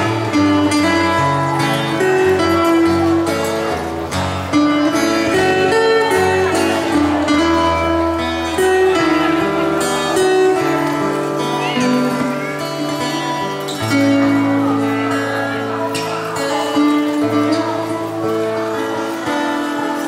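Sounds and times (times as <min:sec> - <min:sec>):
live band playing instrumental: 0:00.0 - 0:20.0.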